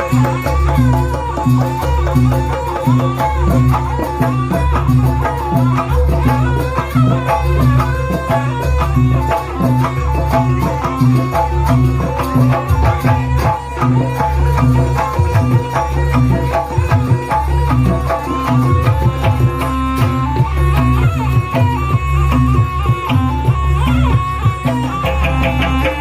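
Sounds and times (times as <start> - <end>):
folk ensemble music: 0.0 - 26.0
hand drums beating fast rhythm: 0.0 - 26.0.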